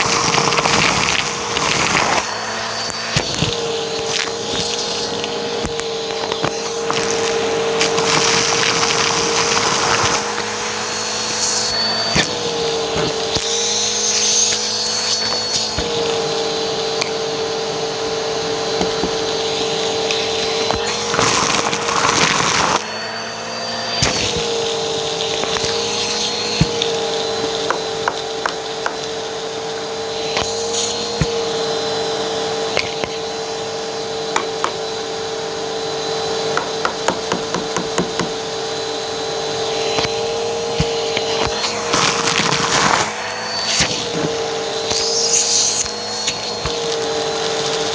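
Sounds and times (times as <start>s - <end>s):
vacuum cleaner motor running: 0.0s - 47.9s.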